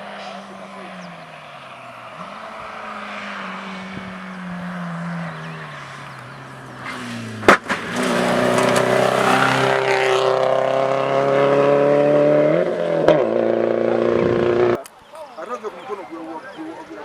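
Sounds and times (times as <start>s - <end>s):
rally car engine accelerating: 0.0s - 14.8s.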